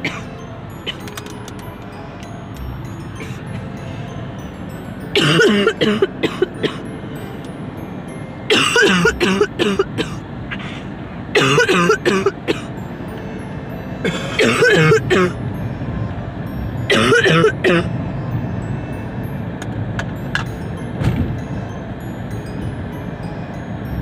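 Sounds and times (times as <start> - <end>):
road noise inside a car: 0.0 - 24.0.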